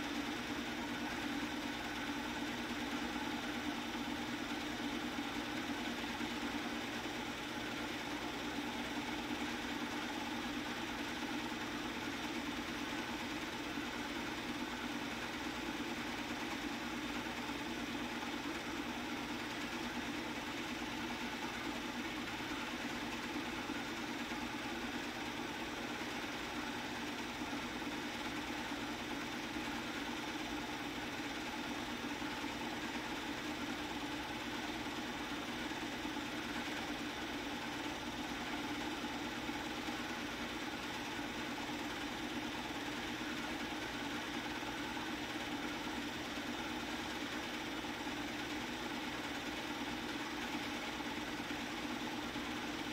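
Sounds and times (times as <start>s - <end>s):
film projector whirring: 0.0s - 52.9s.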